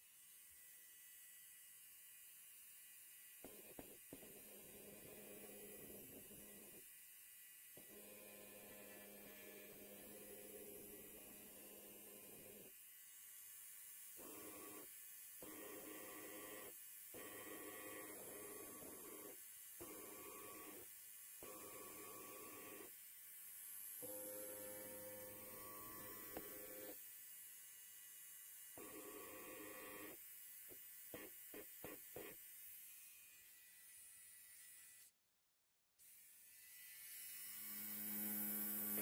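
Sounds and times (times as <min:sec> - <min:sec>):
electric hair clipper buzzing: 0:00.0 - 0:35.2, 0:36.0 - 0:39.0.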